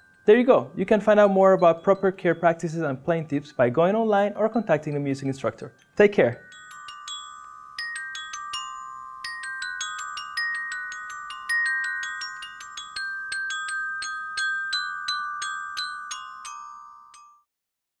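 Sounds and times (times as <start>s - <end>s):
glockenspiel melody: 0.0s - 17.5s.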